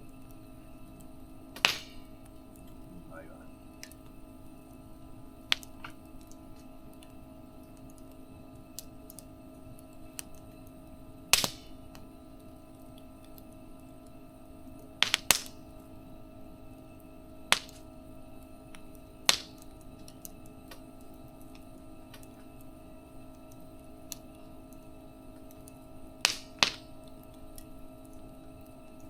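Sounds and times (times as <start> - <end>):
campfire wood crackling and popping: 0.0 - 29.0
faint steady hum: 0.0 - 29.0.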